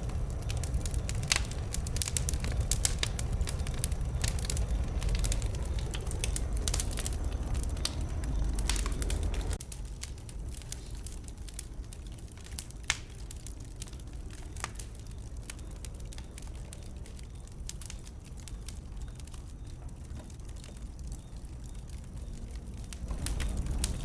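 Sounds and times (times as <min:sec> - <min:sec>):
bonfire crackling and popping: 0:00.0 - 0:24.0
fire rumbling: 0:00.0 - 0:24.0.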